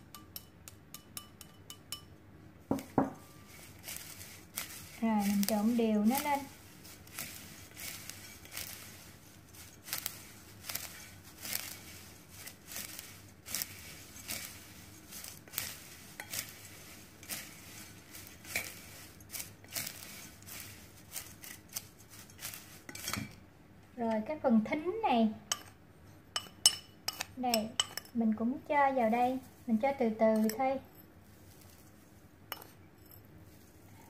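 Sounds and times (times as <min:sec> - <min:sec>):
chopsticks tossing dry food: 0:02.7 - 0:23.4, 0:26.4 - 0:32.8, 0:33.5 - 0:34.0.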